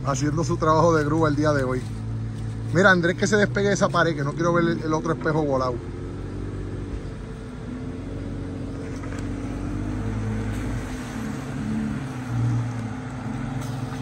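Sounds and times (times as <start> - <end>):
off-road engine running at low revs: 0.0 - 14.0.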